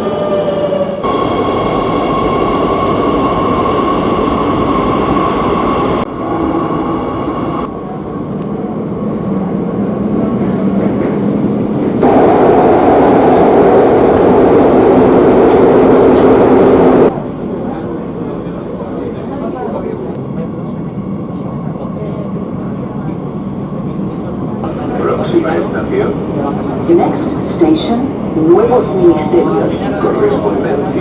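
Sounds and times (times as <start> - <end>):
subway train rumbling with electric whine: 0.0 - 31.0.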